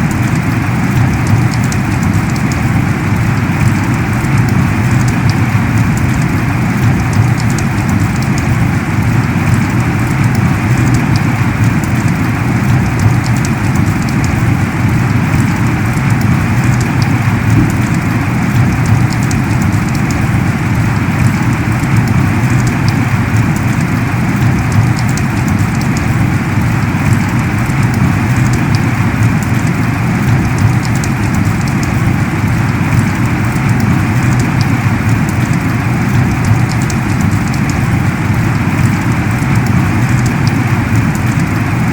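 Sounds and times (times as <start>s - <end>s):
heavy rain pouring: 0.0s - 41.9s
raindrops ticking: 0.0s - 41.9s.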